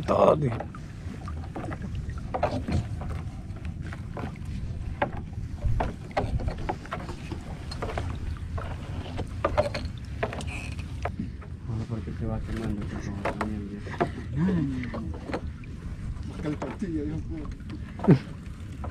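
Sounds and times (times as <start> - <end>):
low rumble of wind and water: 0.0 - 18.9.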